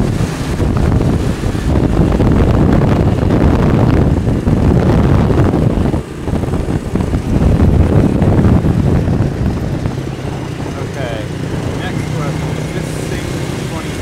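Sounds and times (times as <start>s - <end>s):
motorcycle engine: 0.0s - 14.0s
passing traffic: 0.0s - 14.0s
wind buffeting microphone: 0.0s - 14.0s.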